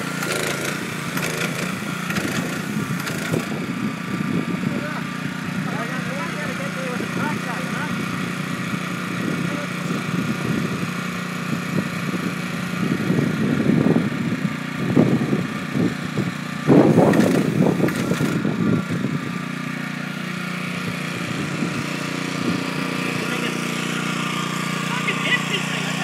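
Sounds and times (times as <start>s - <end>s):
machine engine running: 0.0s - 26.0s.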